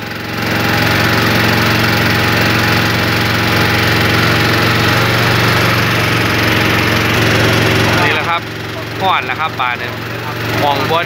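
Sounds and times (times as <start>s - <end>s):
small boat engine droning: 0.0s - 11.0s.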